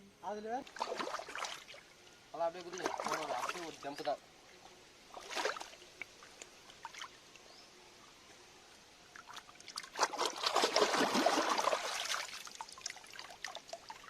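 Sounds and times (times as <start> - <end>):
water trickling and splashing: 0.4 - 14.0.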